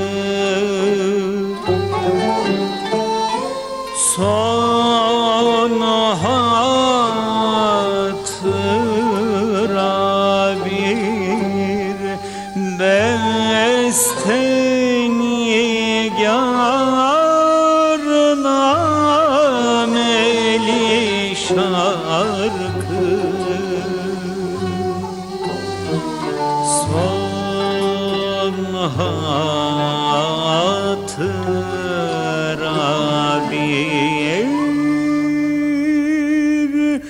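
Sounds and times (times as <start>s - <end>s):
instrumental accompaniment: 0.0s - 36.8s
man singing ornamented phrases: 0.0s - 37.0s.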